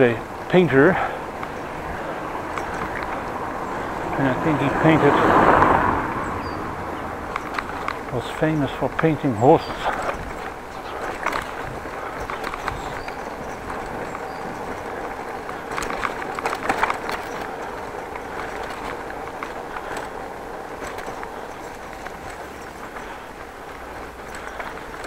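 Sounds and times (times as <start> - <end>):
bicycle rolling: 0.0 - 25.0
bike rattling: 0.0 - 25.0
wind noise: 0.0 - 25.0.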